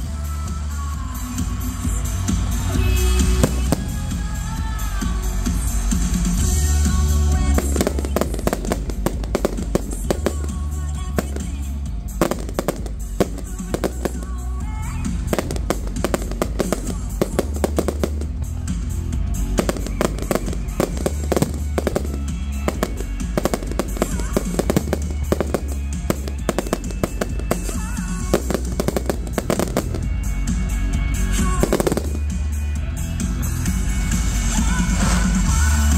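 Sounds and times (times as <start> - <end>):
fireworks bangs and crackles: 0.0 - 35.9
loud music: 0.0 - 35.9.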